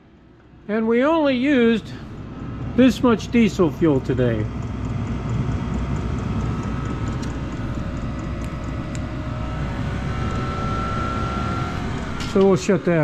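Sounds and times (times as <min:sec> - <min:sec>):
heater burner and fan rumbling: 0:00.0 - 0:13.0
thin steady whine: 0:00.0 - 0:13.0.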